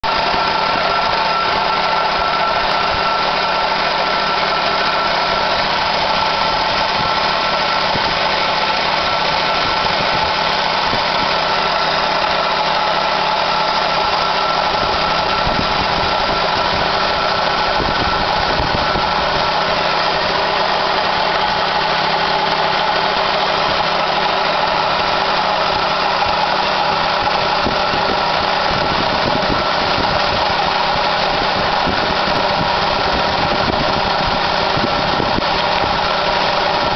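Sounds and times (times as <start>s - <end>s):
car engine idling: 0.0s - 36.9s
high whine: 0.0s - 36.9s.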